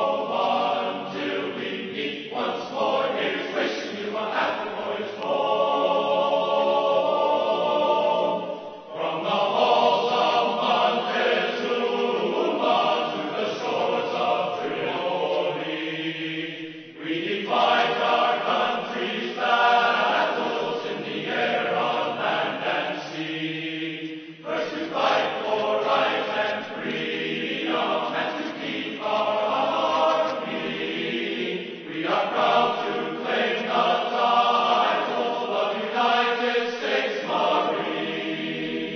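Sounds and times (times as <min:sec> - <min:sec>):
choral singing in held notes: 0:00.0 - 0:38.9.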